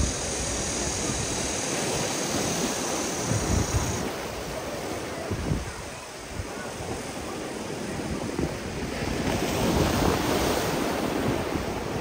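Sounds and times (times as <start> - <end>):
ocean waves breaking: 0.0 - 12.0
wind buffeting microphone: 0.0 - 12.0.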